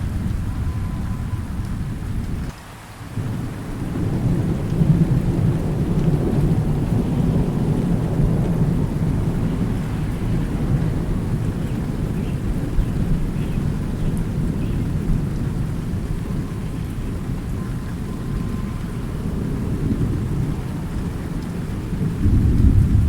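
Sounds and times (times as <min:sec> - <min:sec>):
thunder rumble: 0:00.0 - 0:02.5, 0:03.1 - 0:23.0
steady rain: 0:00.0 - 0:23.0.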